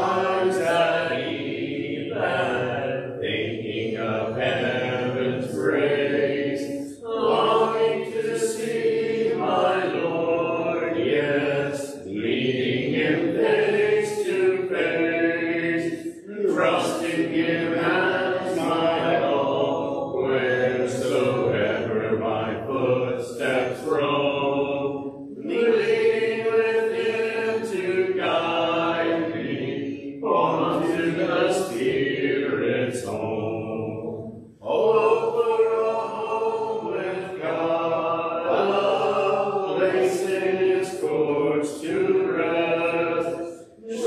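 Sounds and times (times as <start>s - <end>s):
congregation singing a hymn: 0.0s - 44.0s.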